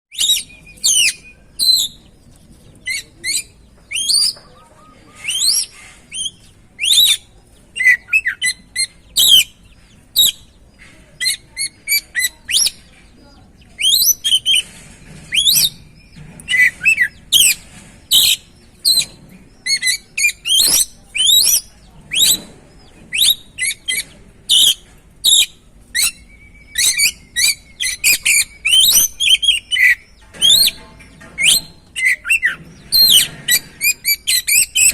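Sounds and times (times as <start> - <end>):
songbird whistles and trills: 0.1 - 10.5, 11.2 - 12.8, 13.7 - 34.9.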